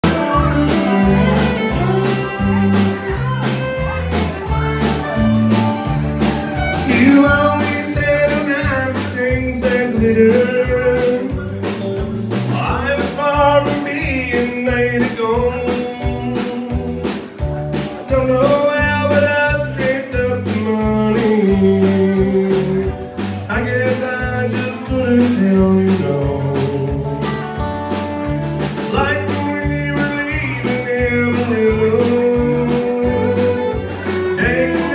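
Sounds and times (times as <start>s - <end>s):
country band playing: 0.0s - 34.9s.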